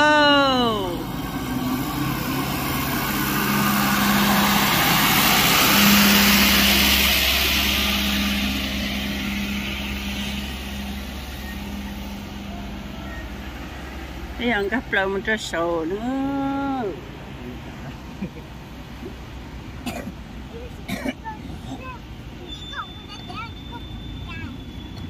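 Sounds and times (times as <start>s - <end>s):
motor vehicle engine: 0.0s - 25.0s
road noise: 0.0s - 25.0s.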